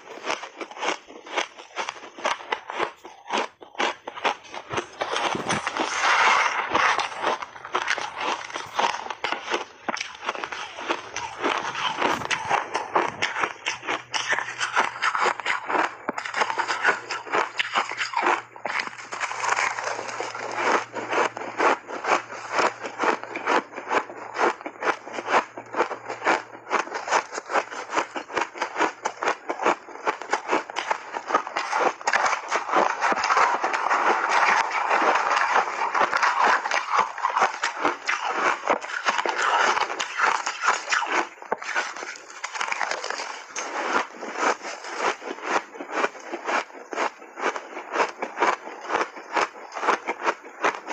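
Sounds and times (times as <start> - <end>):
crunching and chewing shaved ice: 0.0 - 50.9.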